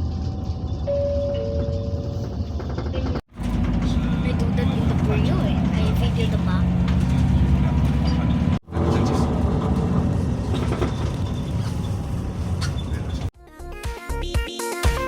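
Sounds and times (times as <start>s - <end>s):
vehicle interior rumble: 0.0s - 13.3s.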